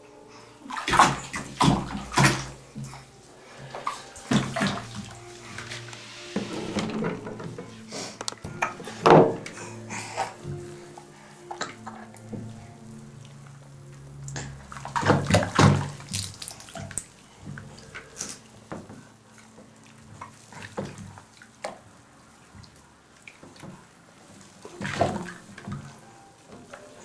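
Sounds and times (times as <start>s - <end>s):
water dripping: 0.6s - 6.1s, 7.0s - 27.0s
baby splashing bathwater: 0.6s - 27.0s.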